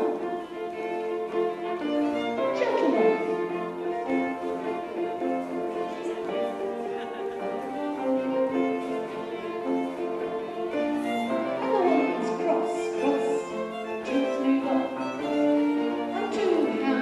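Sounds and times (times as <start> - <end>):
fiddle and strings dance tune: 0.0 - 17.0.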